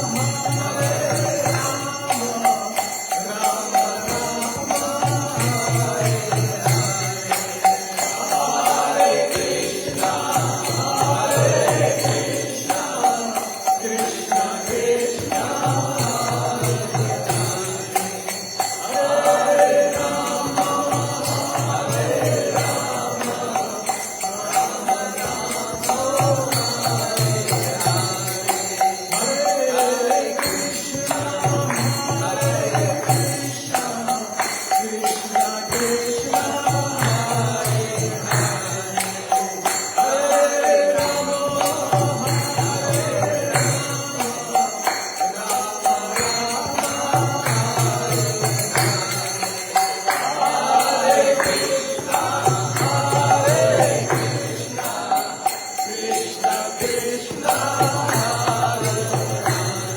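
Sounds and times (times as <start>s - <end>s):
hand cymbals jingling: 0.0s - 59.9s
voices chanting: 0.0s - 59.9s.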